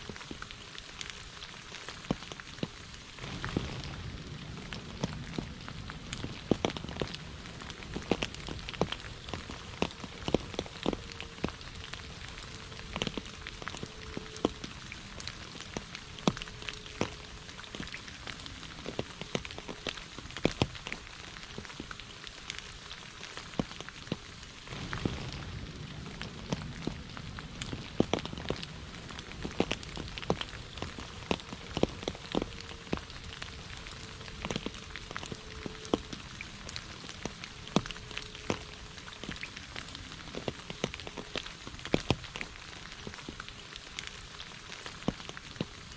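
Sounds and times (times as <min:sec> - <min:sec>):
heavy rain hissing: 0:00.0 - 0:45.9
raindrops tapping on a surface: 0:00.0 - 0:45.9.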